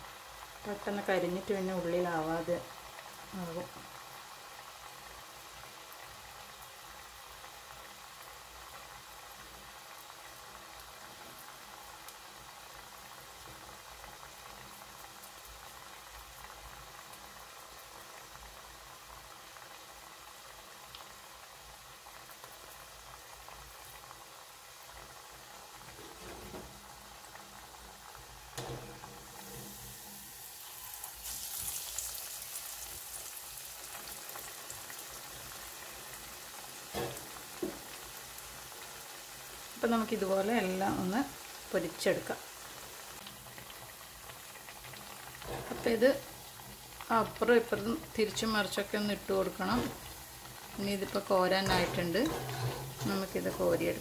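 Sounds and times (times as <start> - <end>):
fritters sizzling in oil: 0.0 - 54.0.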